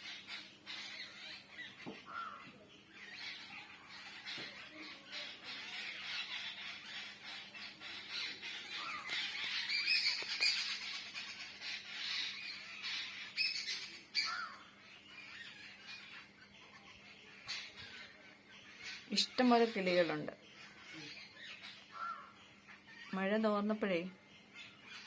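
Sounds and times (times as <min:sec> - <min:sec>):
many birds chattering: 0:00.0 - 0:25.0.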